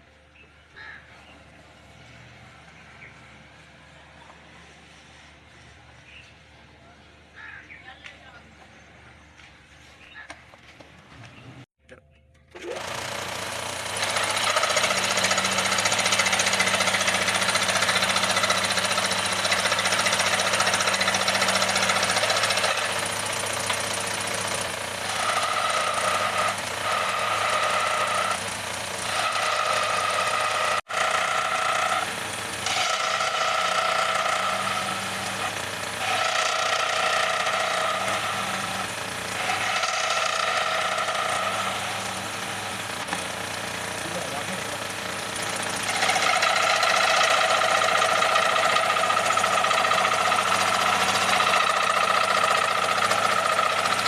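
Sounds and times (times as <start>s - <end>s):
scroll saw cutting wood: 4.1s - 6.2s, 12.6s - 54.0s.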